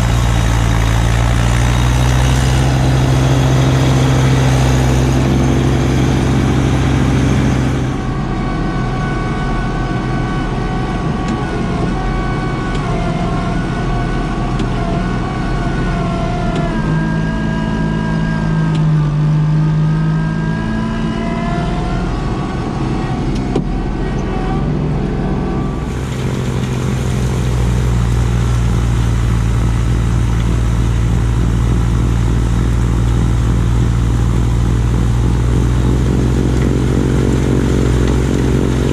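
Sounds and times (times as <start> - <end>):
tractor diesel engine running: 0.0 - 38.9
whining tone: 0.0 - 38.9.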